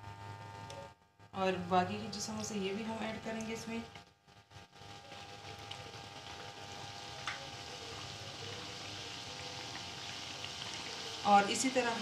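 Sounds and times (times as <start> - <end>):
oil sizzling and bubbling: 1.9 - 12.0.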